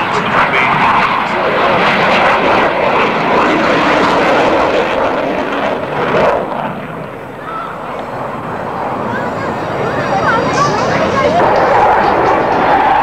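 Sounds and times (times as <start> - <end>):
military jet flying past: 0.0 - 13.0.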